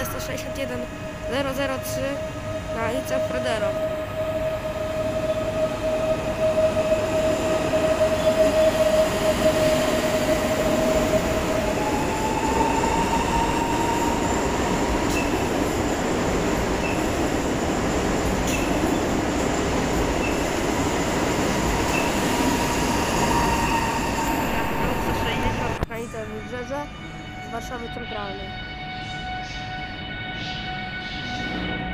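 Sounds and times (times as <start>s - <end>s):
train rumble with whine: 0.0s - 31.9s.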